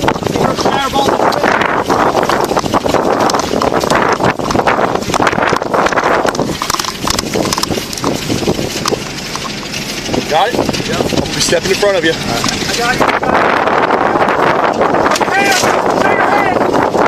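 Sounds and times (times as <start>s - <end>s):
constant rush of noise: 0.0s - 17.0s.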